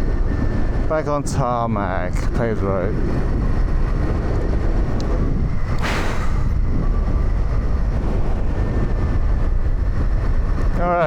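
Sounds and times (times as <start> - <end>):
motorcycle engine rumble: 0.0 - 11.0
wind on microphone: 0.0 - 11.0.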